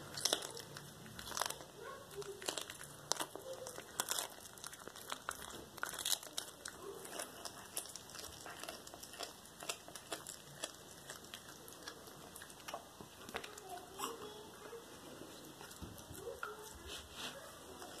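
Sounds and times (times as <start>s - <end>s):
cat crunching and tearing prey: 0.0s - 18.0s.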